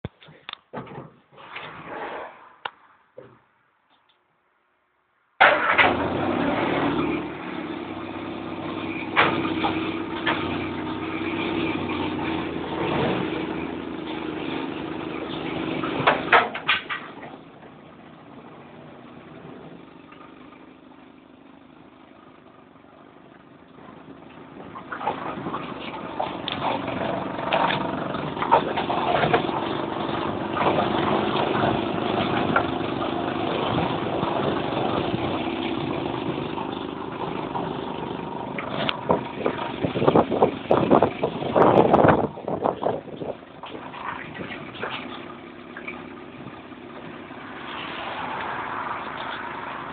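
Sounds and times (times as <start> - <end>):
car engine running: 5.4 - 49.9.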